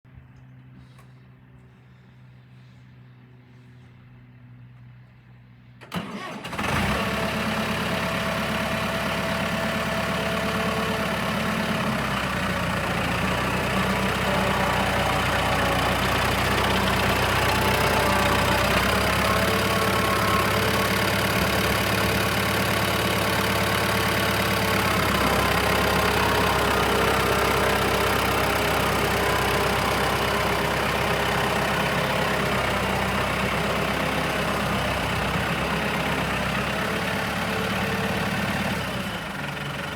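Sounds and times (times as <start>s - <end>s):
tractor diesel engine idling: 0.2s - 39.9s.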